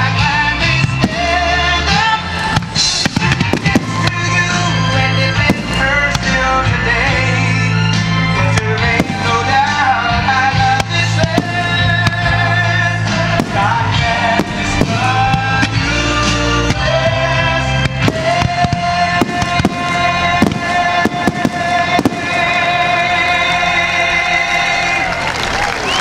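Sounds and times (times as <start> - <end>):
music playing: 0.0 - 26.0
fireworks bangs: 0.8 - 7.4, 8.5 - 26.0.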